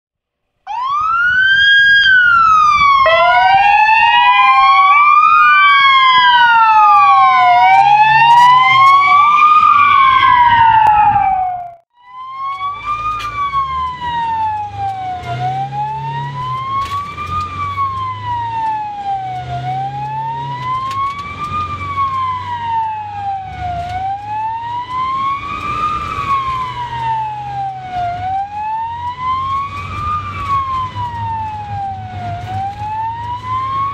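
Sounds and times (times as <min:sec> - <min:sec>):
vehicle engine and road noise: 0:00.6 - 0:33.9
ambulance sirens wailing: 0:00.7 - 0:33.9.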